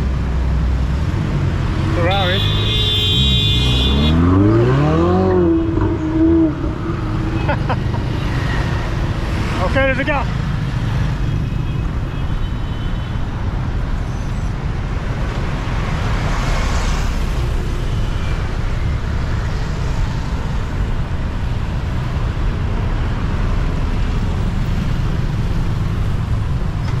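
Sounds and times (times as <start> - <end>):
heavy street traffic passing: 0.0 - 27.0.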